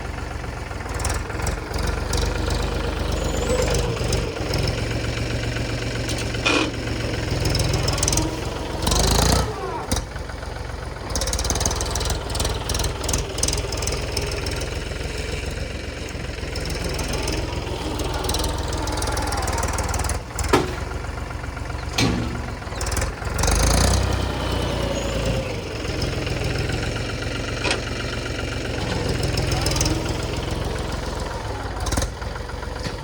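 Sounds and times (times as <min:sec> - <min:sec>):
tractor diesel engine rumbling: 0:00.0 - 0:33.0.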